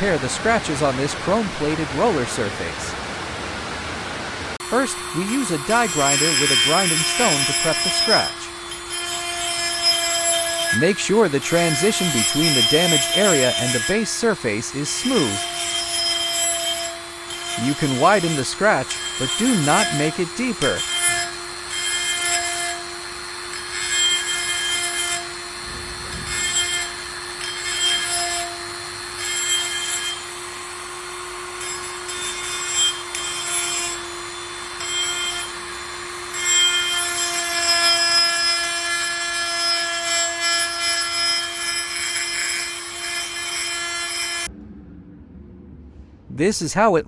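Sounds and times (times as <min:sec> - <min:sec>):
die grinder grinding metal: 0:04.6 - 0:44.5.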